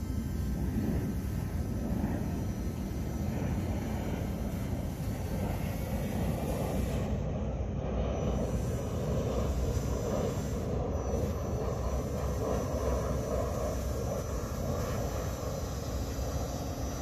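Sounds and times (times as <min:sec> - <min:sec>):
faint boat motor drone: 0:00.0 - 0:17.0.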